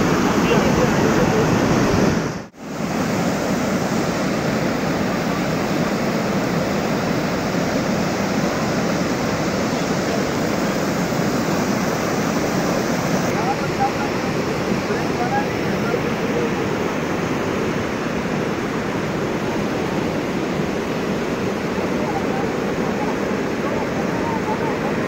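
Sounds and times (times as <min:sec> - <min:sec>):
flood water rushing over rocks: 0:00.0 - 0:25.0.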